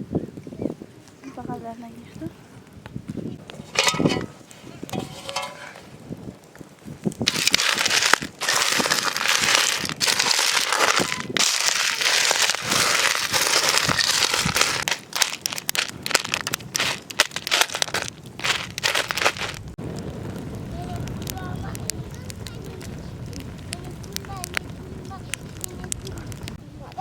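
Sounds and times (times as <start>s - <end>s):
wood fire crackling and popping: 2.1s - 27.0s.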